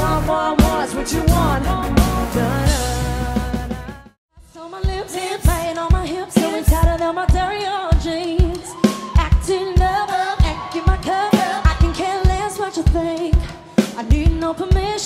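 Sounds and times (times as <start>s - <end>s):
pop band playing live: 0.0s - 15.0s
woman singing lead vocals: 0.0s - 15.0s.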